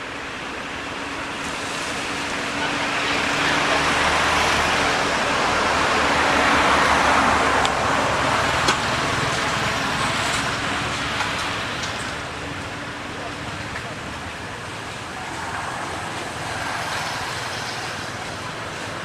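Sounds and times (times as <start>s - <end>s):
passing vehicle engine and tyres: 0.0s - 19.0s.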